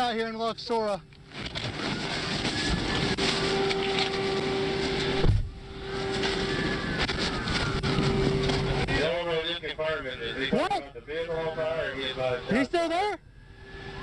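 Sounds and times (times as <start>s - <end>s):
steady hum: 0.0s - 14.0s
faint siren wailing: 1.7s - 14.0s
steady rushing noise: 1.8s - 14.0s.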